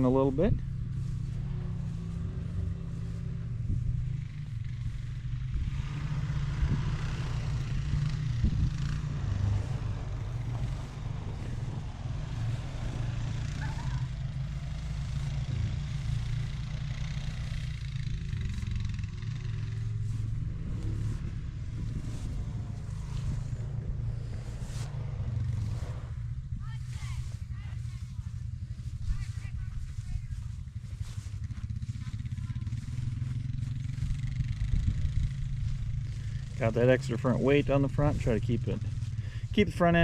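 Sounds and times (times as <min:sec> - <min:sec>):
tractor engine idling: 0:00.0 - 0:05.5, 0:09.0 - 0:25.5, 0:26.2 - 0:40.0.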